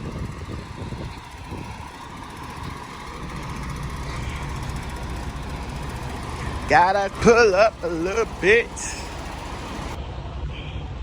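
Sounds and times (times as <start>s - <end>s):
diesel truck engine rumbling: 0.0s - 10.2s.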